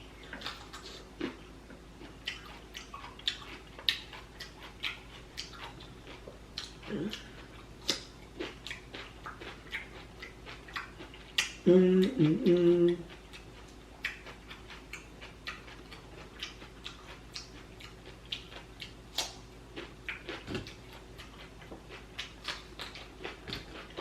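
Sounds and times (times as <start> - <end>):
person chewing with wet smacks: 0.1 - 24.0.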